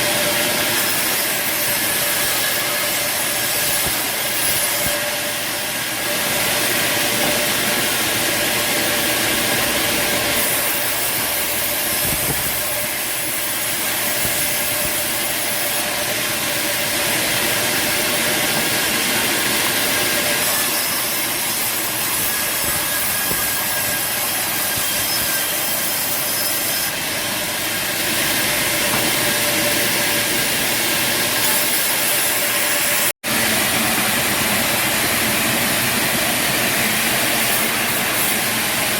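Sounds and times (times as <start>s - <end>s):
band saw cutting timber: 0.0s - 38.9s.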